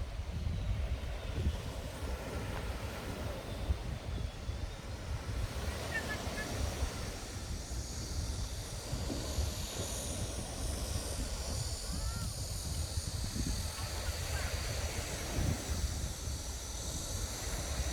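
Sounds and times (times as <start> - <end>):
sea surf hissing: 0.0 - 17.9
wind buffeting microphone: 0.0 - 17.9.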